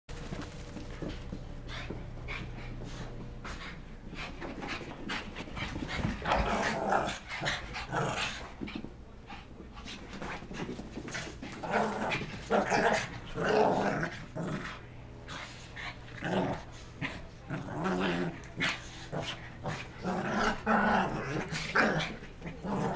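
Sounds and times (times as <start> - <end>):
dogs play-growling: 0.2 - 22.9.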